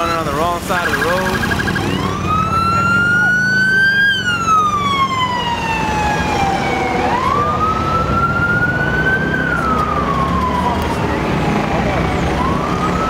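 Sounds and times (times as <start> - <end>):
emergency siren wailing: 0.0 - 13.0
rumble of passing vehicles: 0.0 - 13.0.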